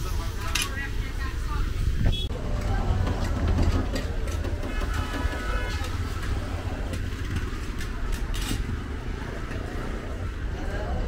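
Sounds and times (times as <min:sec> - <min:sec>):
passing vehicle traffic rumble: 0:00.0 - 0:11.0.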